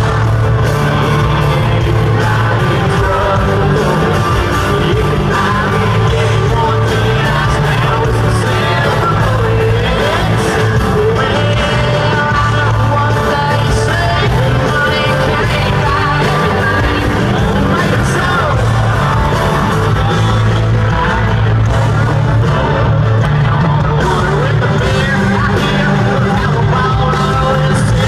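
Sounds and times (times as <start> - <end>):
live country band playing: 0.0 - 28.0
man singing lead vocal: 0.0 - 28.0.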